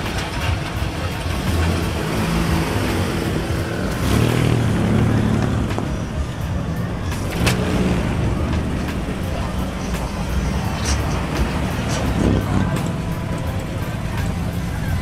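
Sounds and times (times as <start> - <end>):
car engines rumbling past: 0.0 - 15.0
music playing: 0.0 - 15.0.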